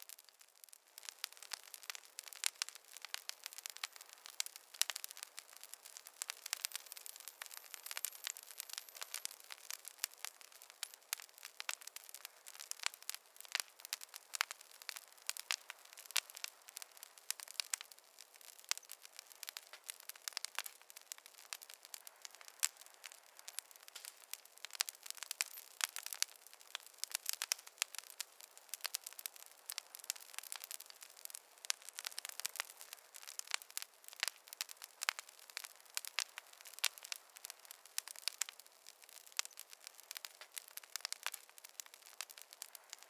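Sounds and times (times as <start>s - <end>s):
campfire crackling: 0.0s - 43.0s
faint hiss: 0.0s - 43.0s.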